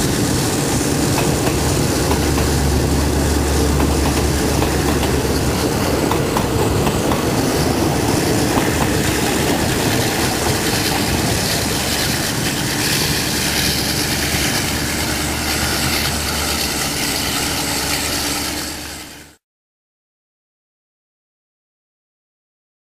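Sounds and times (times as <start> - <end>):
train wheels clicking over rails: 0.0 - 19.2
train rumbling: 0.0 - 19.4.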